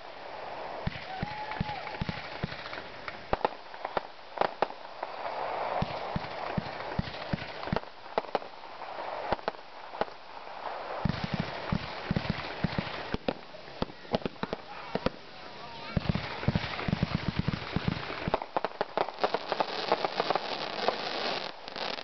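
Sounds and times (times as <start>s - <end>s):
fireworks popping and banging: 0.8s - 22.0s.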